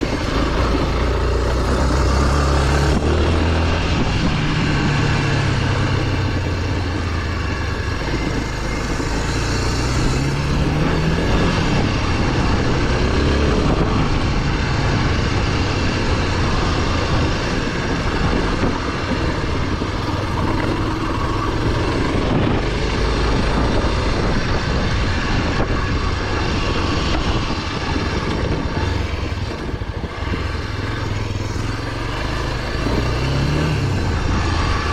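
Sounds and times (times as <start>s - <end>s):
motorcycle engine revving: 0.0s - 34.9s
steady rushing noise: 0.0s - 34.9s.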